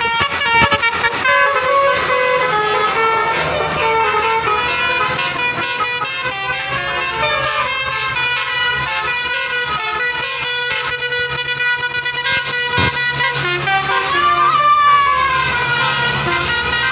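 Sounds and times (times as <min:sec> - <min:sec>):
musical air horn playing a tune: 0:00.0 - 0:16.9.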